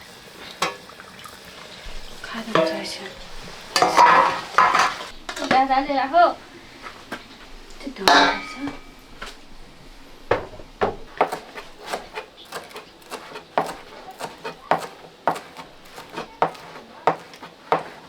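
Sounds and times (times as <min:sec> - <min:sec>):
kitchen utensils knocking and scraping: 0:01.8 - 0:18.0.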